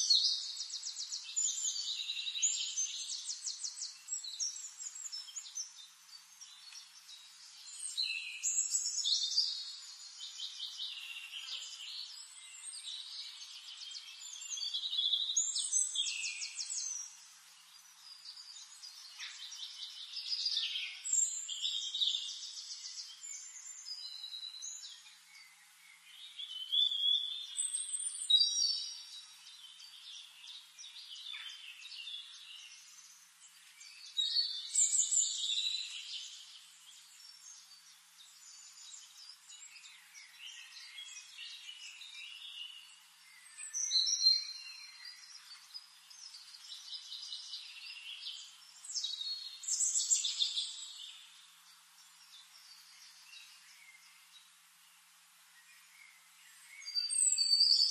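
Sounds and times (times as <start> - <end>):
birds singing: 0.0 - 57.9.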